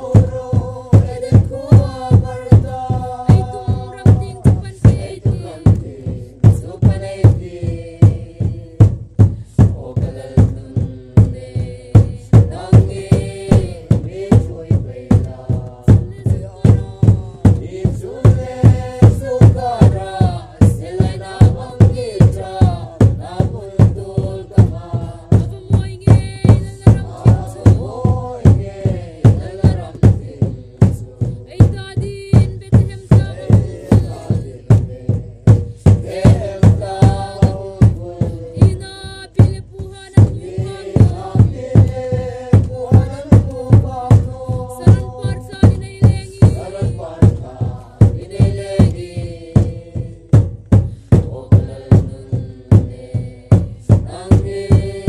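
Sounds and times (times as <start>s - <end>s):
group singing a hymn: 0.0s - 55.0s
large drum beating: 0.0s - 55.0s.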